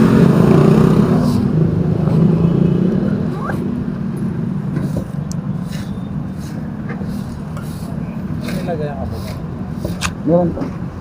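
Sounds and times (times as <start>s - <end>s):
street traffic: 0.0s - 11.0s
vehicle engine humming: 0.0s - 11.0s.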